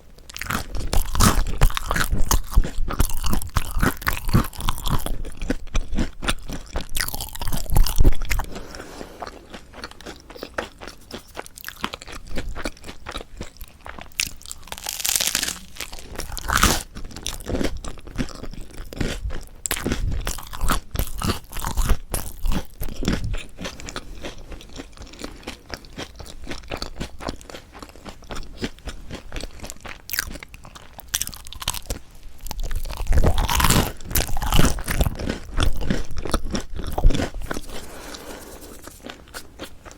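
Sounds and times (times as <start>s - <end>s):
crunchy chewing of bread roll: 0.1s - 39.9s.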